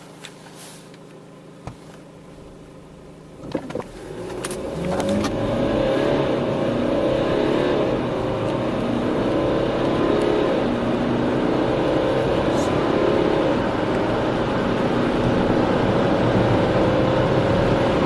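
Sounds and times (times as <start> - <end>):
diesel car engine: 0.0 - 18.0.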